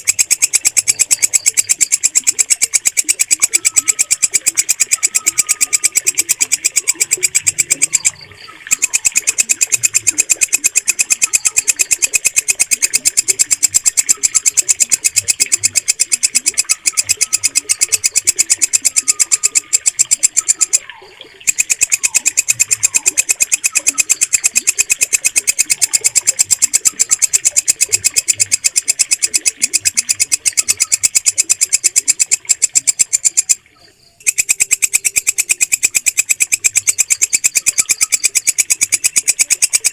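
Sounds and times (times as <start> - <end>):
katydid shrill chirping: 0.1 - 27.5, 34.2 - 39.9.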